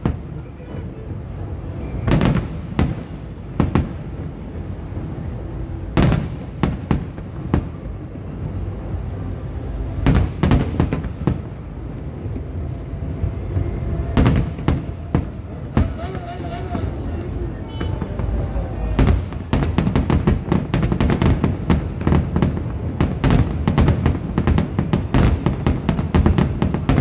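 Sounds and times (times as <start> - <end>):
continuous low rumble: 0.0 - 27.0.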